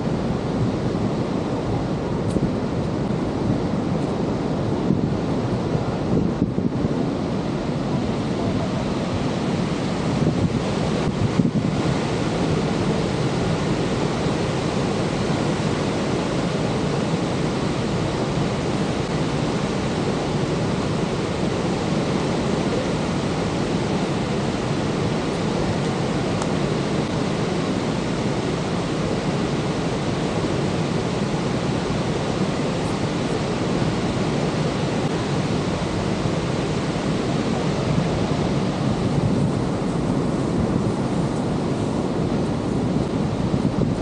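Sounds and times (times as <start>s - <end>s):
rushing waterfall: 0.0s - 44.0s
wind buffeting microphone: 0.0s - 44.0s.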